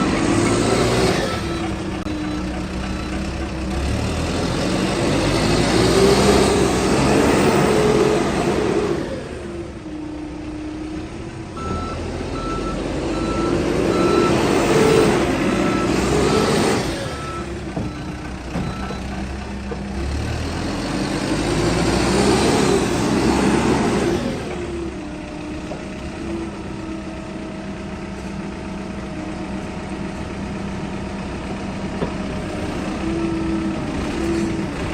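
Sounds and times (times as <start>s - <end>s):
backhoe diesel engine revving: 0.0s - 34.9s.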